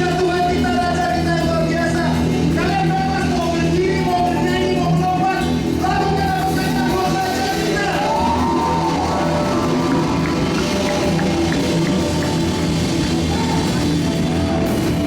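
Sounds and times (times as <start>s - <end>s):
gospel band playing: 0.0s - 15.0s
steady bass line: 0.0s - 15.0s.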